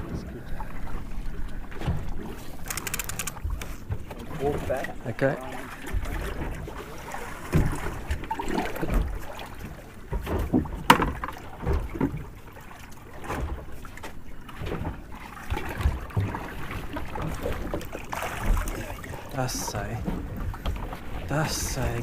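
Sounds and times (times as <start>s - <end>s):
water against boat hull: 0.0s - 22.0s.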